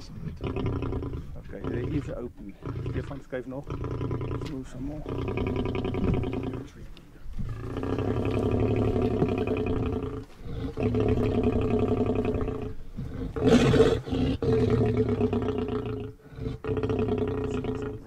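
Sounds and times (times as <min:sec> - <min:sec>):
lion calling: 0:00.0 - 0:18.0.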